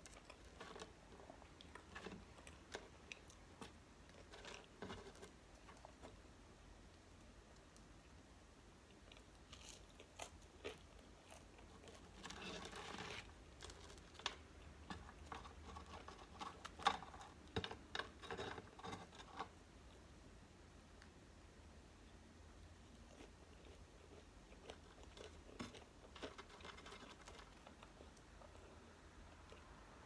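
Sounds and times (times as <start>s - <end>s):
crunchy chewing: 0.0s - 6.3s, 8.8s - 20.0s, 22.9s - 29.8s.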